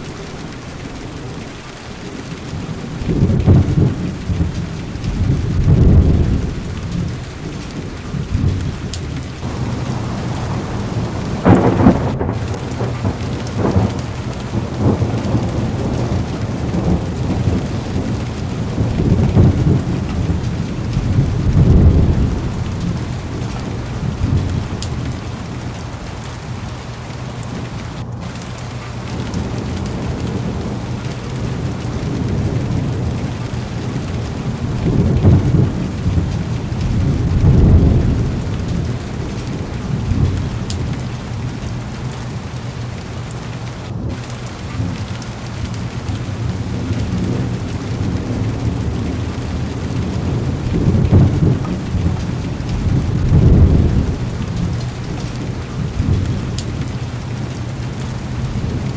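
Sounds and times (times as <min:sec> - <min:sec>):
heavy rain on car roof: 0:00.0 - 0:58.9
thunder rolling: 0:02.3 - 0:58.9.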